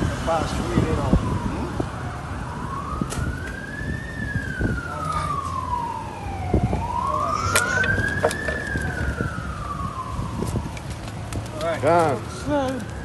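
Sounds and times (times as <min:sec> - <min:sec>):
siren wailing: 0:00.6 - 0:11.2.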